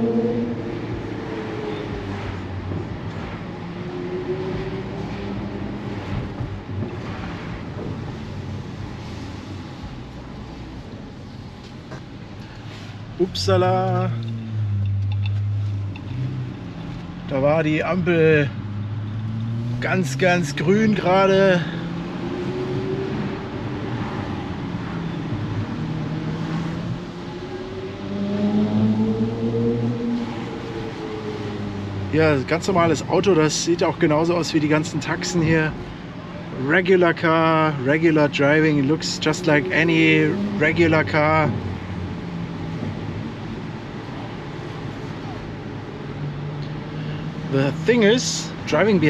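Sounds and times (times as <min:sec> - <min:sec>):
car engine cruising: 0:00.0 - 0:49.0
road and wind noise: 0:00.0 - 0:49.0.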